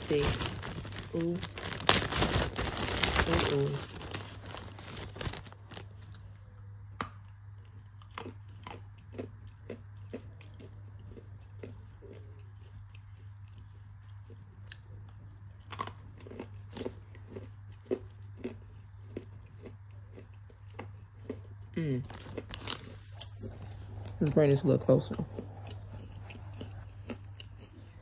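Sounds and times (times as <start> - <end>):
person chewing and crunching: 0.0 - 28.0
steady low hum: 0.0 - 28.0.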